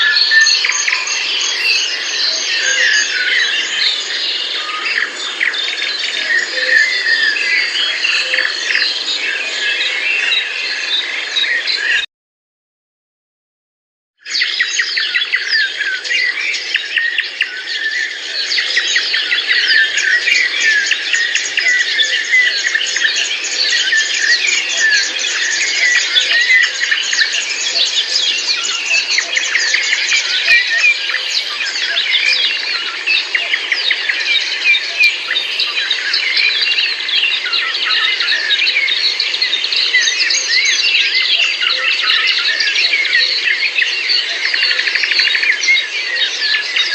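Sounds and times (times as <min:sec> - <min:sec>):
birds chirping chorus: 0:00.0 - 0:12.0, 0:14.3 - 0:46.9.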